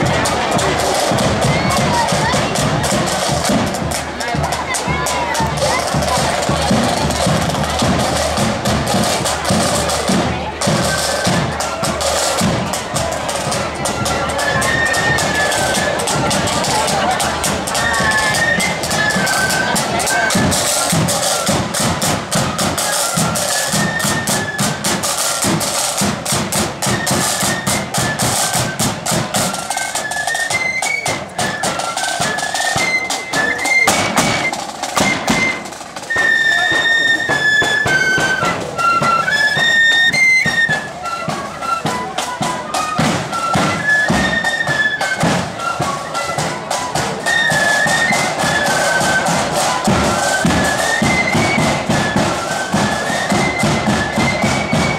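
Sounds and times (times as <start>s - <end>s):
flutes playing in unison: 0.0s - 54.9s
snare drums rattling: 0.0s - 54.9s.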